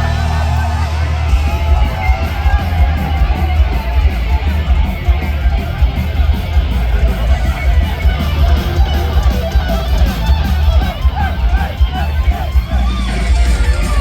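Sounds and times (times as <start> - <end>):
distorted electric guitars: 0.0 - 14.0
drums: 0.0 - 14.0
heavy bass: 0.0 - 14.0.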